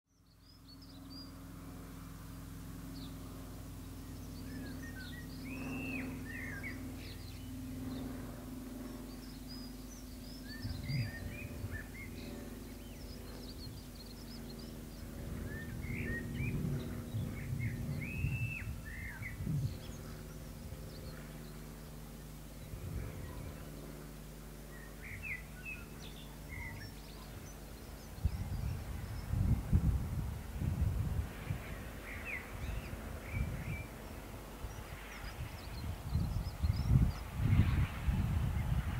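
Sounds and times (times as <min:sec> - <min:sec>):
songbirds singing and chirping: 0:00.1 - 0:30.6, 0:31.3 - 0:38.9
low steady hum: 0:00.1 - 0:38.9.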